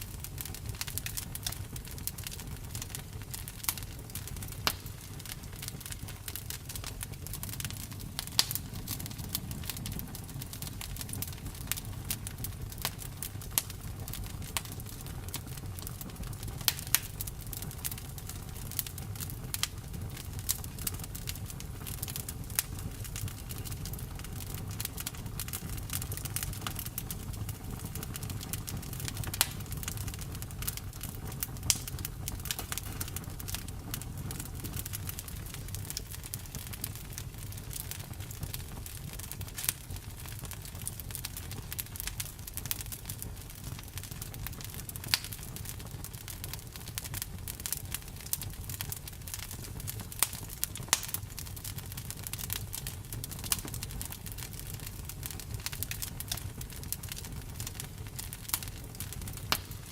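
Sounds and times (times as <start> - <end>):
campfire low rumble: 0.0 - 59.9
fire crackles and pops: 0.0 - 59.9.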